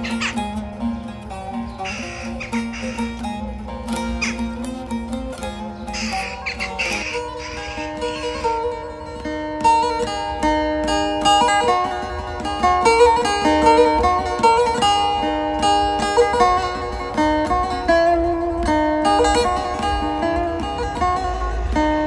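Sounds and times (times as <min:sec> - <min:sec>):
plucked string instrument melody: 0:00.0 - 0:22.0.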